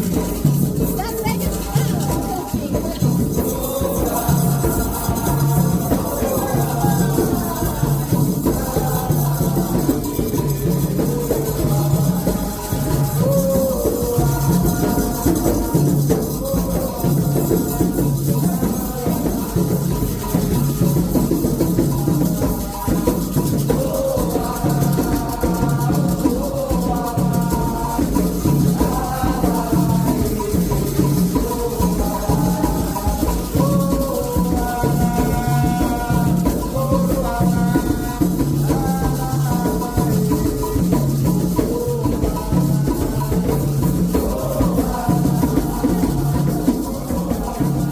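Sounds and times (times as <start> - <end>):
hand drums rhythm: 0.0 - 47.9
people singing chants: 0.0 - 47.9
shaken rattle: 0.0 - 47.9.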